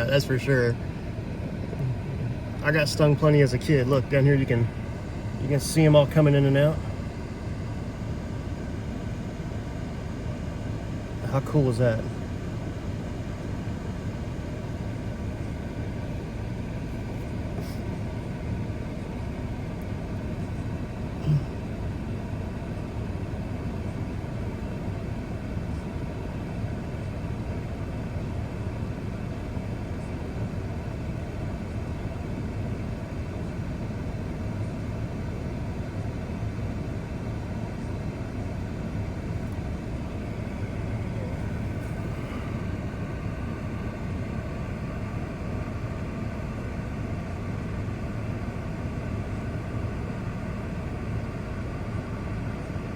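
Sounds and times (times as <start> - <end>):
truck idling rumble: 0.0 - 52.9.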